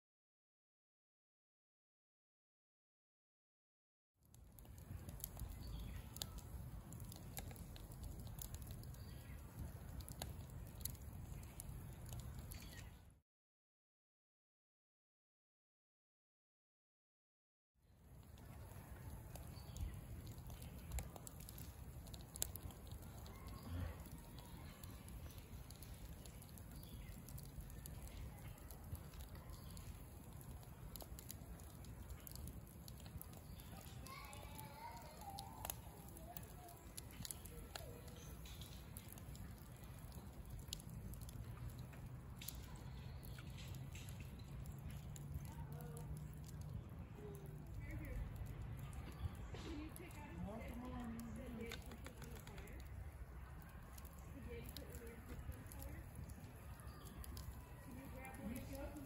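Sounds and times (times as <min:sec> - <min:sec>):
low rumble of wind: 0:04.3 - 0:13.2, 0:17.9 - 0:59.0
faint small clicks: 0:04.6 - 0:13.0, 0:18.2 - 0:50.2, 0:50.8 - 0:59.0.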